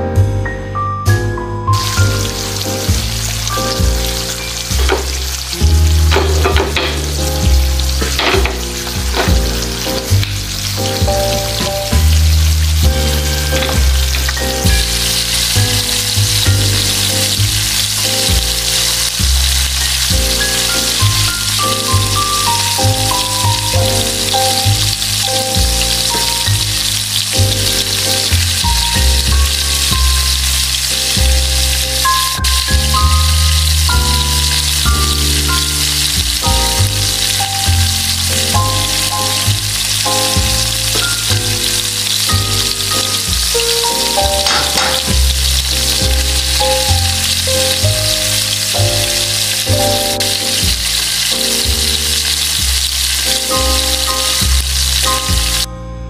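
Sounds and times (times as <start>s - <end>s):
background music with bass line: 0.0s - 56.0s
fish sizzling in a pan: 1.7s - 55.7s.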